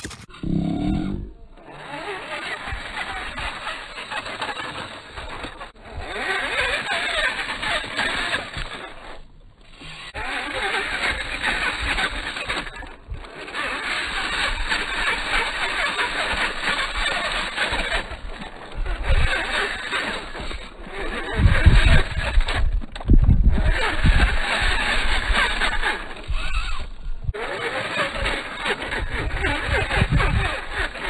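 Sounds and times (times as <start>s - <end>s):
tyres scrabbling on rock: 0.0s - 0.5s, 1.6s - 31.0s
electric motor whirring: 0.0s - 31.0s.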